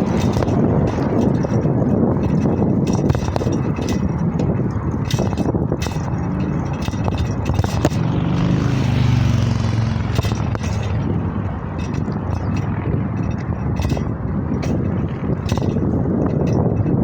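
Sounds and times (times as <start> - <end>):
passing vehicle engine hum: 0.0 - 17.0
rattles: 0.0 - 17.0
wind on microphone: 0.0 - 17.0.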